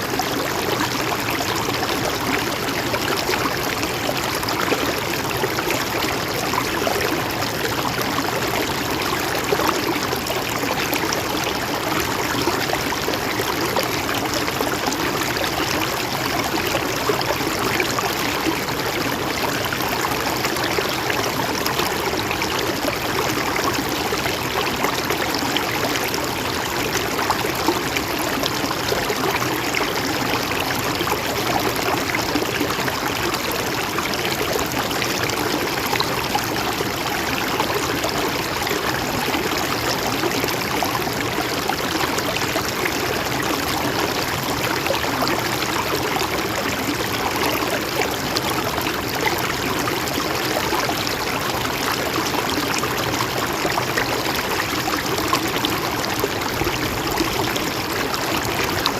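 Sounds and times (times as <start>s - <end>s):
stream water over rocks: 0.0s - 58.9s.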